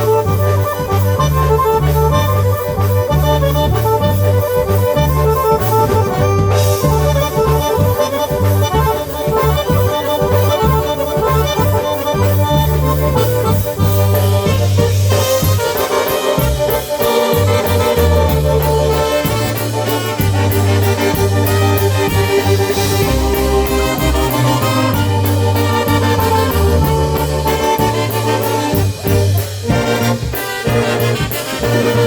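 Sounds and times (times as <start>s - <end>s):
accordion: 0.0s - 32.0s
bass line: 0.0s - 32.0s
drum beat: 0.0s - 32.0s.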